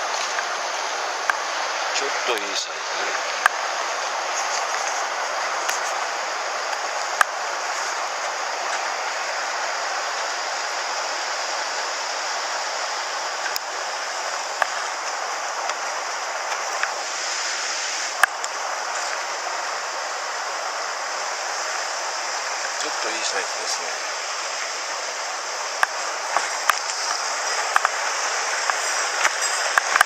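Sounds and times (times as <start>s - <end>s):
stream water flowing: 0.0s - 30.0s.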